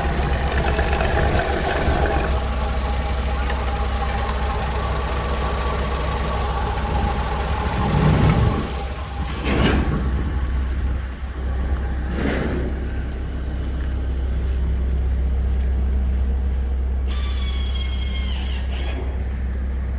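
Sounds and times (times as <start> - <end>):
car engine idling and revving: 0.0 - 16.9.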